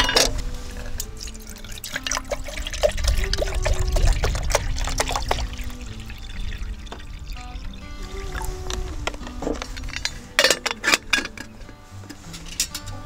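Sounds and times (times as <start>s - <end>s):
water pouring into metal pot: 0.0s - 11.5s.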